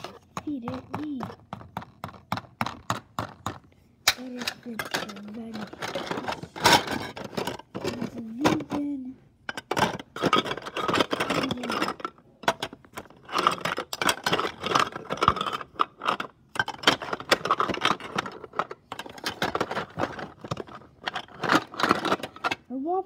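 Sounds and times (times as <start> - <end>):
plastic toys clattering: 0.0 - 23.0.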